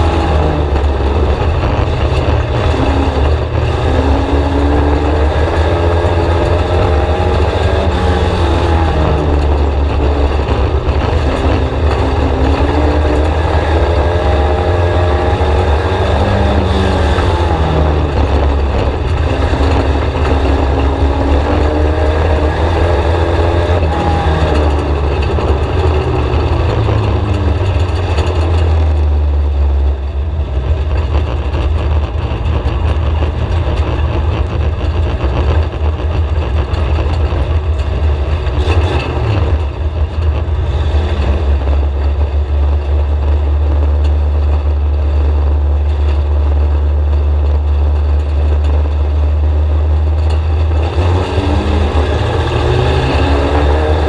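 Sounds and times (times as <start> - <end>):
heavy low rumble: 0.0 - 54.0
race car engine: 0.0 - 54.0.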